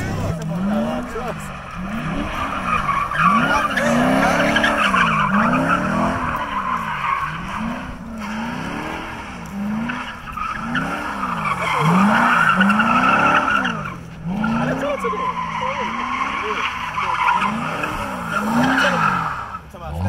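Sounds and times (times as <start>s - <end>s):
car engine revving: 0.0s - 20.0s
tyres squealing: 0.0s - 20.0s.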